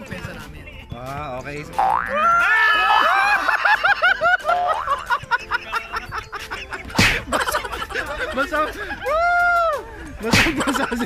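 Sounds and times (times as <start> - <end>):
people laughing: 2.1 - 11.0.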